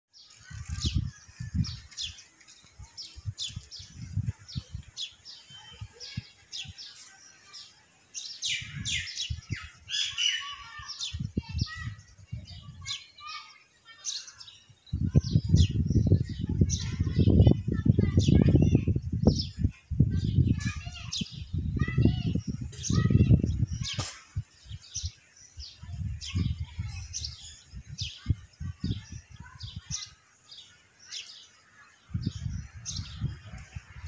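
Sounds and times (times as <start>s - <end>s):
small birds chirping: 0.1s - 34.0s.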